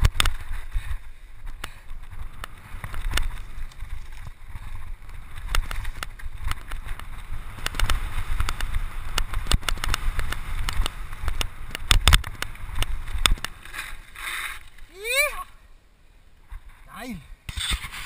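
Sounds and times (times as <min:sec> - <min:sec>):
bike clicks and rattles: 0:00.0 - 0:14.9
bike tyres on gravel and leaves: 0:00.0 - 0:15.6.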